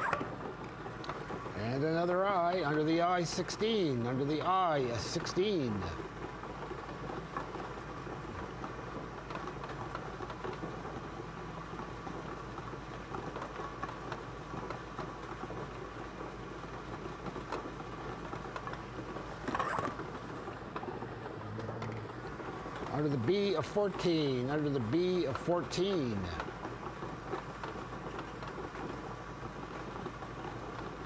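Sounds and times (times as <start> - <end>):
balls rattling and clicking: 0.0 - 31.0
blower air noise: 0.0 - 31.0.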